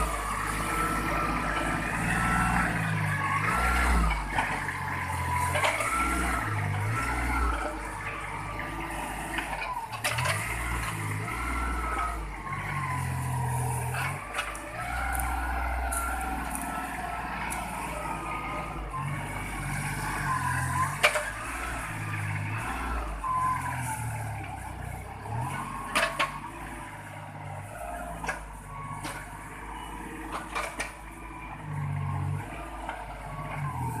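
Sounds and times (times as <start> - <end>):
machine engine working: 0.0 - 34.0
whining tones: 0.0 - 34.0.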